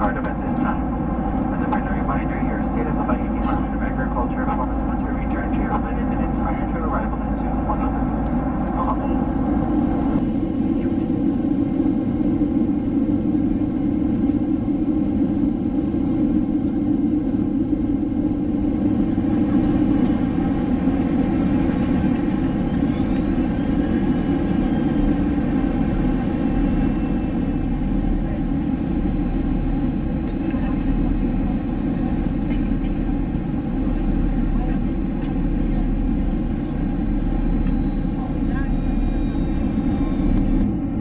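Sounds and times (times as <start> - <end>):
jet engine and airflow in cabin: 0.0 - 41.0.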